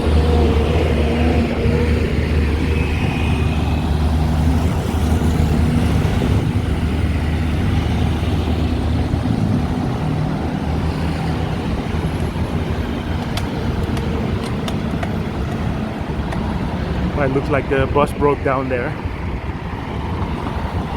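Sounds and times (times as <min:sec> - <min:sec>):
busy road traffic: 0:00.0 - 0:20.9
heavy vehicle engine humming: 0:00.0 - 0:20.9.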